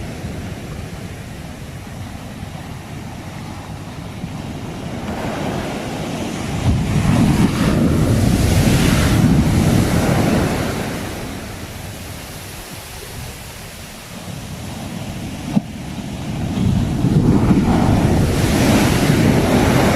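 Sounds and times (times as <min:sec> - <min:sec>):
sea waves surging on shore: 0:00.0 - 0:19.9
wind rumbling on microphone: 0:00.0 - 0:19.9.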